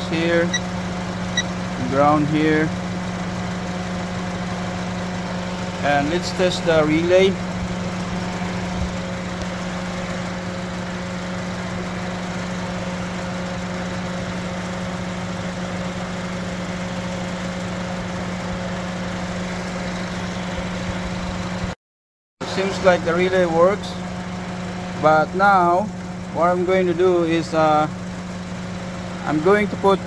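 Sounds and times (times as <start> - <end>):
car engine idling: 0.0 - 21.8, 22.4 - 30.0.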